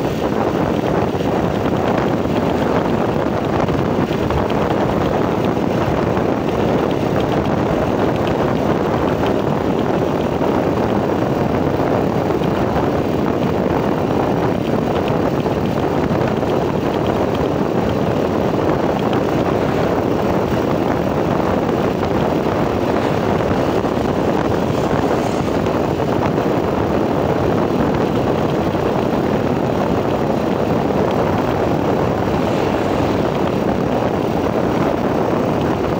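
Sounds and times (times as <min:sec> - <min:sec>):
motorcycle engine at speed: 0:00.0 - 0:35.9
wind rushing: 0:00.0 - 0:35.9.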